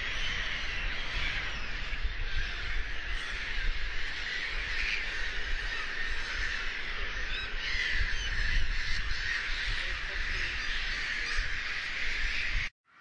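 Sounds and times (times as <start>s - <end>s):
gulls calling: 0.0s - 12.7s.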